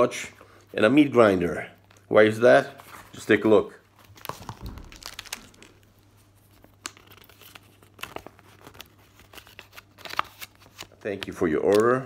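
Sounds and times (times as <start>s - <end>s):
plastic and paper crinkling: 1.8s - 12.0s.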